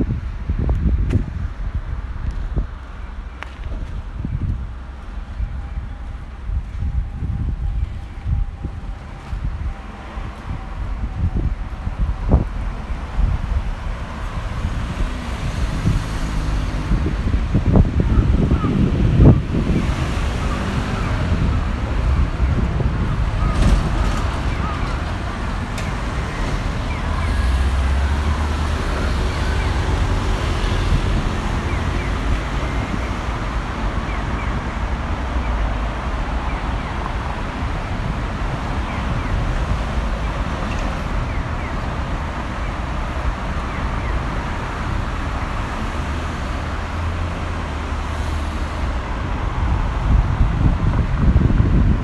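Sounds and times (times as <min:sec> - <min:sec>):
traffic noise: 0:00.0 - 0:52.0
vehicles passing rumble: 0:00.0 - 0:52.0.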